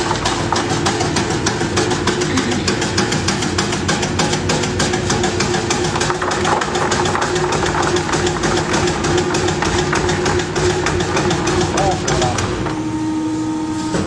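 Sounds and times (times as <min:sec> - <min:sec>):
meat dicing machine running: 0:00.0 - 0:14.0.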